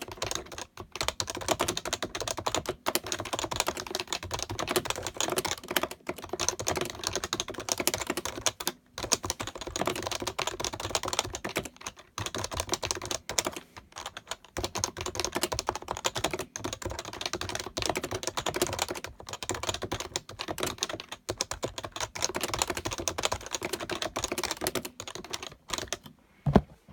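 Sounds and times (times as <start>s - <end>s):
fast keyboard typing: 0.0s - 26.1s.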